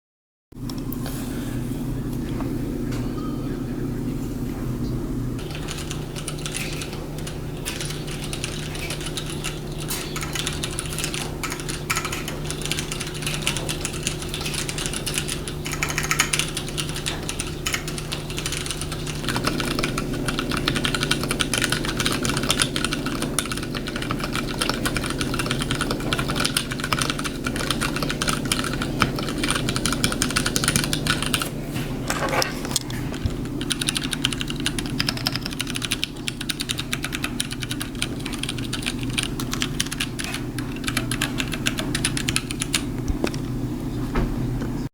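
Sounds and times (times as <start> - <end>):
mechanical keyboard typing: 5.4 - 31.5, 32.8 - 43.5.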